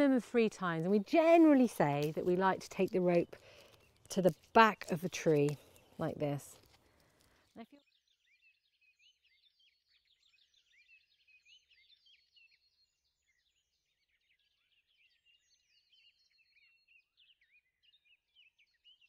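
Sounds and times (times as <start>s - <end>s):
faint birdsong: 0.0s - 19.0s.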